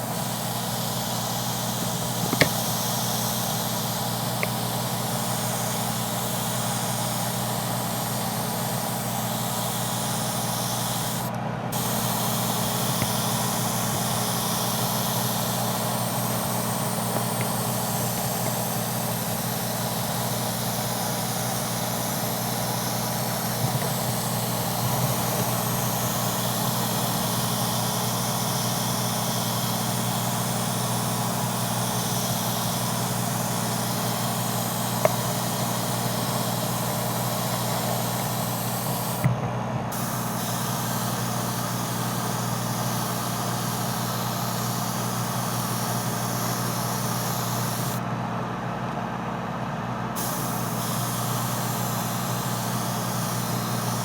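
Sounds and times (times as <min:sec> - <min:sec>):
airbrush hissing: 0:00.0 - 0:39.3, 0:39.9 - 0:48.0, 0:50.1 - 0:54.0
low machine hum: 0:00.0 - 0:54.0.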